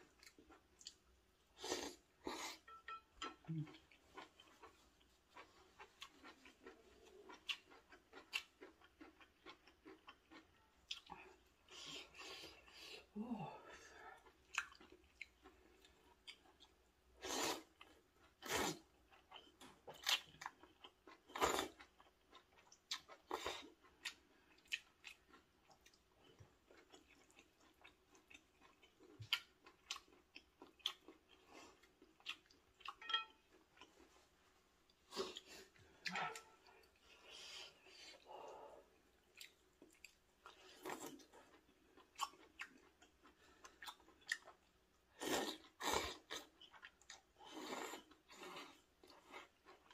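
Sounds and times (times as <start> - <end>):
noodles slurped and chewed: 3.4 - 13.2, 13.9 - 33.0, 33.6 - 49.9.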